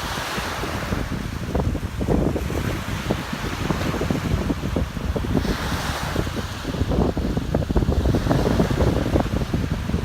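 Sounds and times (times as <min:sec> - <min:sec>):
ocean surf: 0:00.0 - 0:10.0
wind buffeting microphone: 0:00.0 - 0:10.0.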